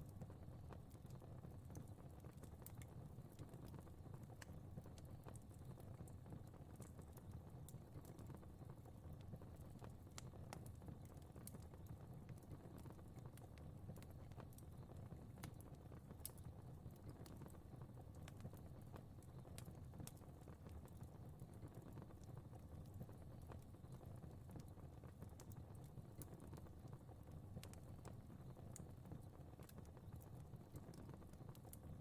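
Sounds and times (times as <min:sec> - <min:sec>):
fire crackling faintly: 0:00.0 - 0:32.0.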